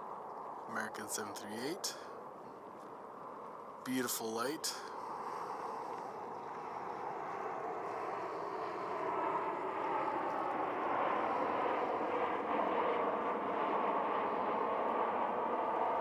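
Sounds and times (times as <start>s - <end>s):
jet airliner engines rushing: 0.0s - 16.0s.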